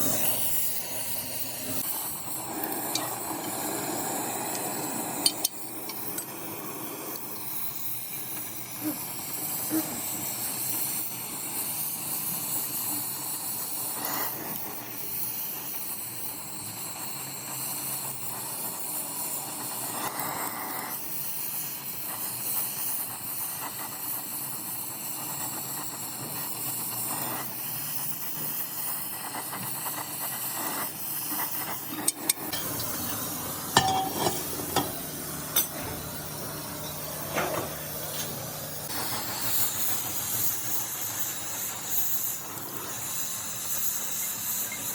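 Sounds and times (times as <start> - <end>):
steady hissing: 0.0 - 44.9.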